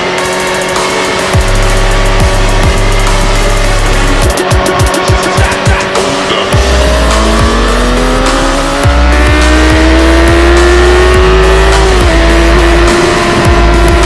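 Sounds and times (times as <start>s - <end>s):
electronic music with heavy bass: 0.0s - 14.0s
motorcycle engine revving: 0.0s - 14.0s.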